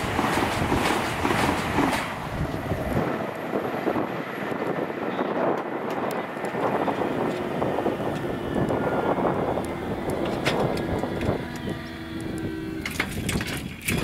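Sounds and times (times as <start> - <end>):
high-speed train approaching: 0.0 - 13.2.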